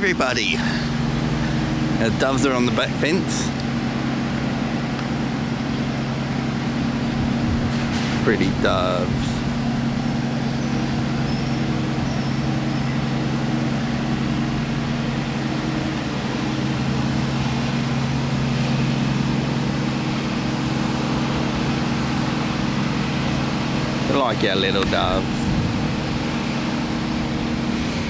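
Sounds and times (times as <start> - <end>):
machinery engine droning: 0.0 - 28.0.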